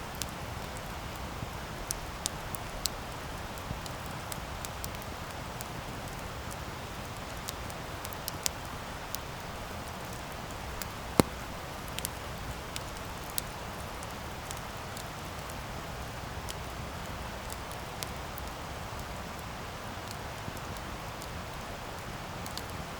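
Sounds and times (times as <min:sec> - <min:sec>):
fire crackling and popping: 0:00.1 - 0:22.9.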